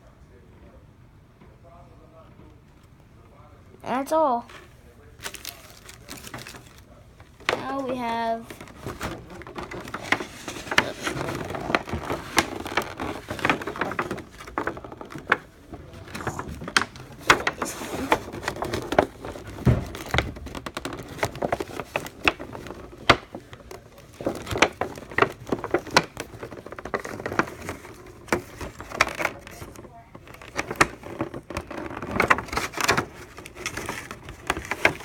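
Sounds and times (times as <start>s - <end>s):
packaging rustling and crinkling: 4.5s - 35.0s
cards tapping and clicking: 5.2s - 35.0s.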